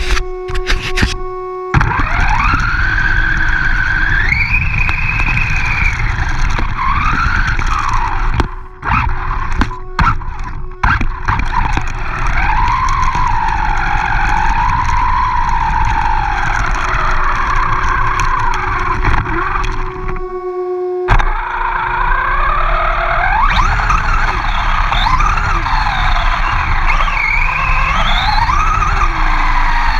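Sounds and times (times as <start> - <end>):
tyre and wind noise: 0.0 - 20.5, 21.1 - 29.9
rc truck motor whine: 0.0 - 29.9.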